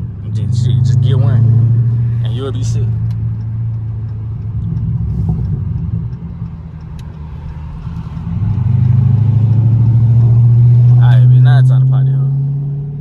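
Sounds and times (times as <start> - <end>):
car exhaust drone at low revs: 0.0 - 13.0.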